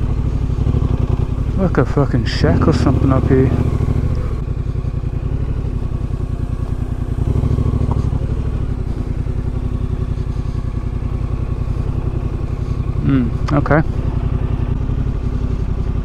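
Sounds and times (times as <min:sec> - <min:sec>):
motorcycle engine at low revs: 0:00.0 - 0:16.0.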